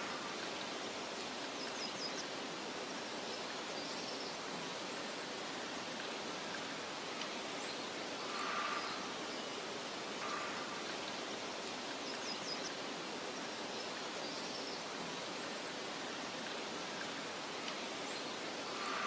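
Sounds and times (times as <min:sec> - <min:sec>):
soft hiss of wind: 0:00.0 - 0:19.0.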